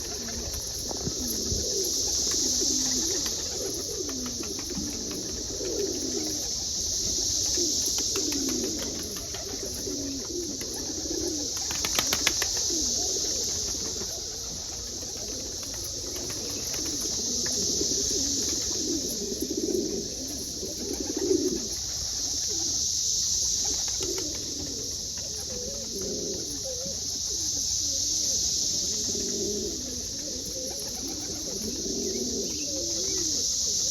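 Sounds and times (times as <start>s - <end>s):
high hiss: 0.0s - 33.9s
pigeons cooing: 0.0s - 33.9s.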